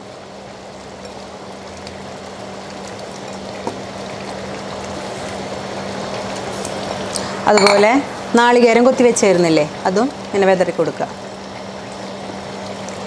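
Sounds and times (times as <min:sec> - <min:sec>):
curry bubbling in a pot: 0:00.0 - 0:07.4, 0:08.0 - 0:13.0.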